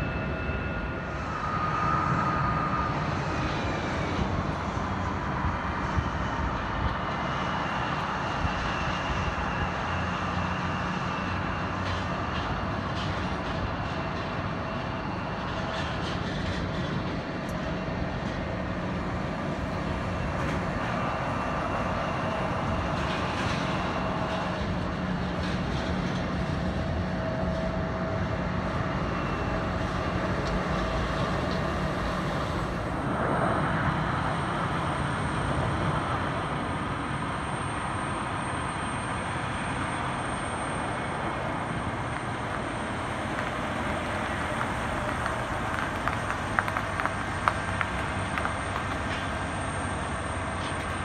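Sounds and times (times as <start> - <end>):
jet engines rumbling: 0.0 - 51.0.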